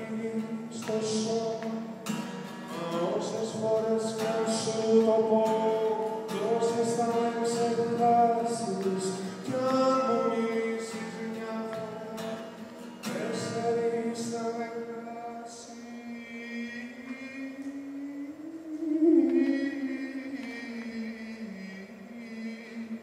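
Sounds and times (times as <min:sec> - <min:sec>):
man singing: 0:00.0 - 0:02.1, 0:02.7 - 0:23.0
strummed acoustic guitar: 0:00.0 - 0:23.0.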